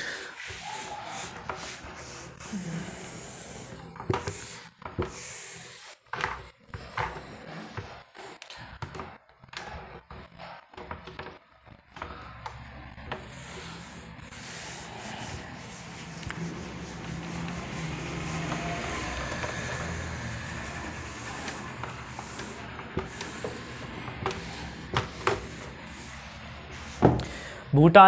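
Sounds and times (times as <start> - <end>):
rubbing and scratching: 0.0 - 27.4.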